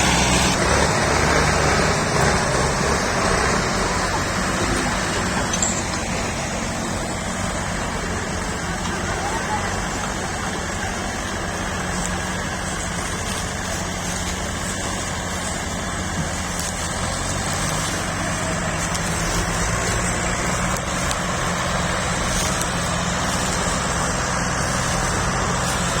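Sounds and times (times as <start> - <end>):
tractor diesel engines under load: 0.0 - 26.0.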